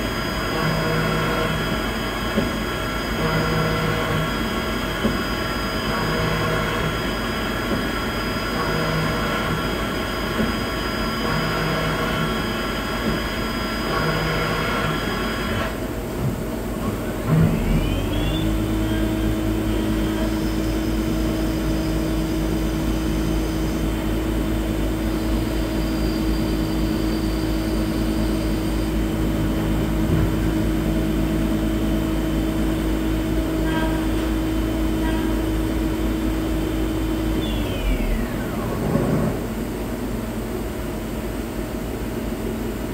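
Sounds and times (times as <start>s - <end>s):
lathe machine whine: 0.0s - 16.0s, 16.9s - 42.8s
machine hum with one tone: 0.0s - 42.9s.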